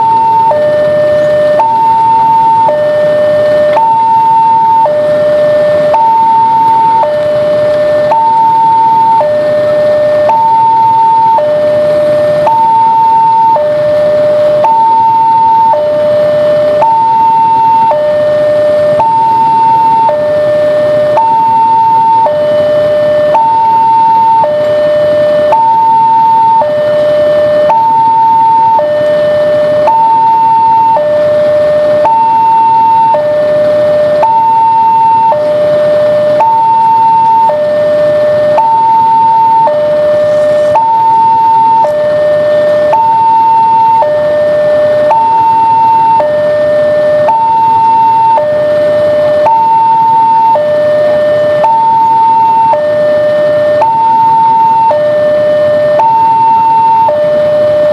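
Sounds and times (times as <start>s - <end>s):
level-crossing warning alarm: 0.0s - 57.9s.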